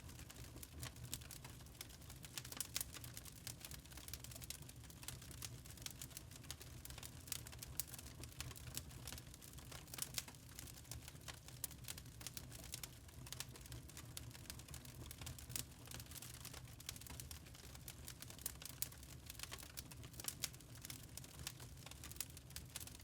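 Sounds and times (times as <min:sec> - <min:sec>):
wood fire popping and snapping: 0:00.0 - 0:23.0.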